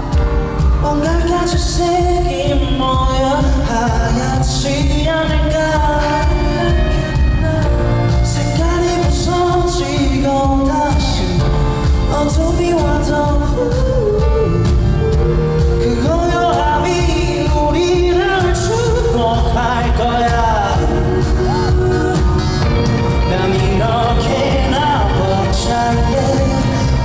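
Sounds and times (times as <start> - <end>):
bass guitar: 0.0 - 27.0
man singing into microphone: 0.0 - 27.0
steady drum beat: 0.0 - 27.0.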